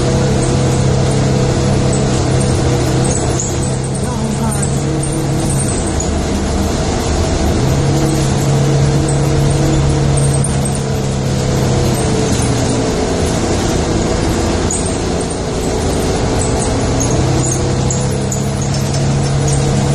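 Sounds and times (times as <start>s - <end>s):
road noise inside vehicle: 0.0s - 19.9s
vehicle engine drone: 0.0s - 19.9s.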